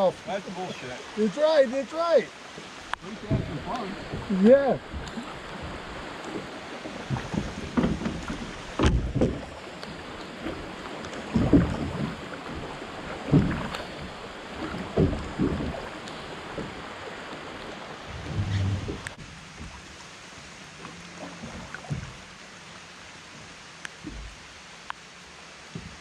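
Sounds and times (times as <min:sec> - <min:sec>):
oar strokes splashing: 0:00.0 - 0:24.7
river flowing: 0:00.0 - 0:26.0
wind: 0:00.0 - 0:26.0.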